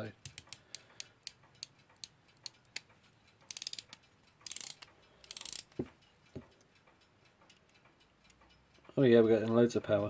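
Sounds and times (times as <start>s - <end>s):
clock mainspring ratchet clicking: 0.1s - 9.6s.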